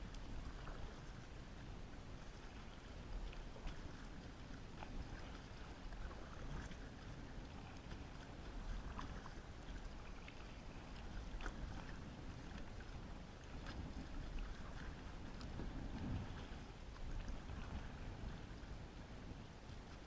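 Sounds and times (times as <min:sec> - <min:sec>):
kayak paddle splashing: 0:00.0 - 0:20.0.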